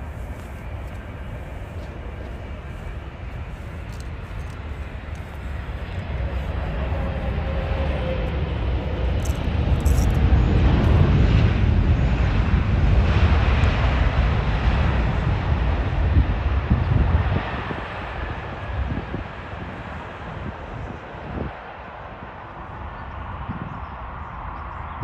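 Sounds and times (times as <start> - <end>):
jet engine rumble: 0.0 - 25.0.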